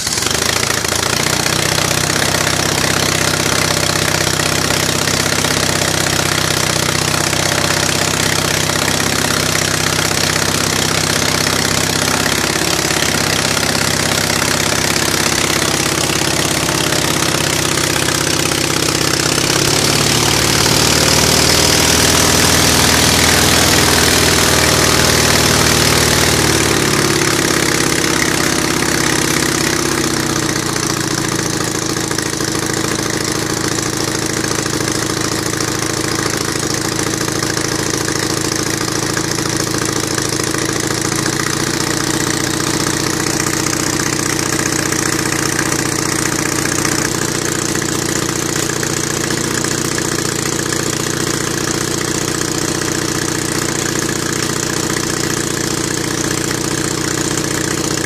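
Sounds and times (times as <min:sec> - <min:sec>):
propeller engine running: 0:00.0 - 0:58.0.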